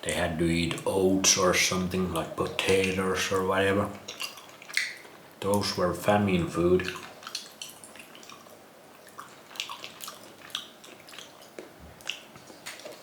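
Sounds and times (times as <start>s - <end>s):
wet eating clicks and smacks: 0.7s - 5.8s, 6.6s - 13.0s.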